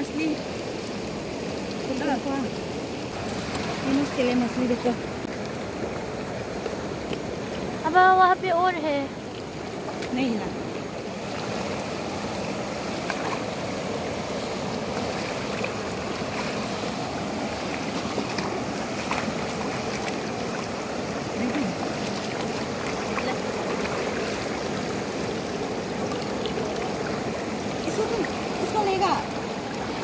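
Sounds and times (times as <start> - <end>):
fast-flowing river rushing: 0.0 - 30.0.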